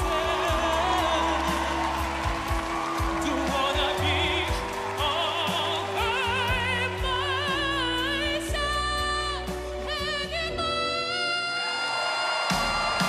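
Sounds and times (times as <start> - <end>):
backing music: 0.0 - 13.0.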